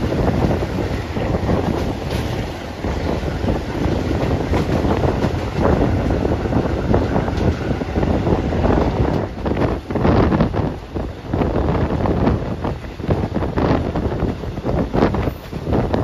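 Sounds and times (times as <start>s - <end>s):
train rumble and clattering: 0.0s - 16.0s
wind buffeting microphone: 0.0s - 16.0s.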